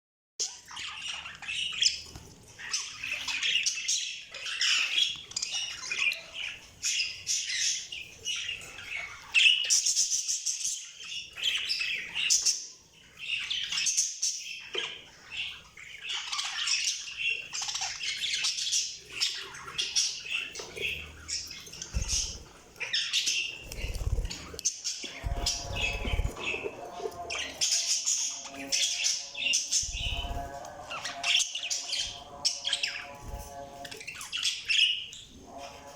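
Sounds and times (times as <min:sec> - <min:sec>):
budgerigars chirping and squawking: 0:00.4 - 0:35.9.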